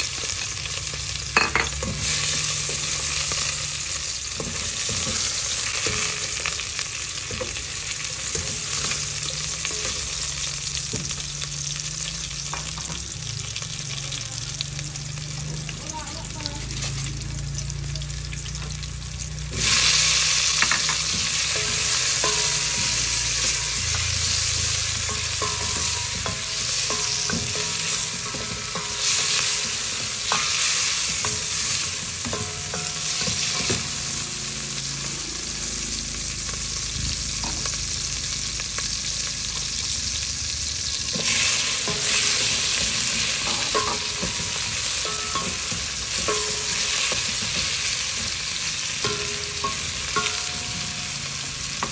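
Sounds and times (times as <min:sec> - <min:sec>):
vegetables sizzling in hot oil: 0:00.0 - 0:51.9.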